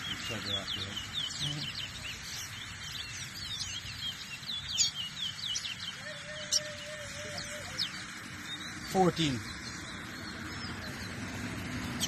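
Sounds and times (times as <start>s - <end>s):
finches twittering: 0.0s - 12.0s.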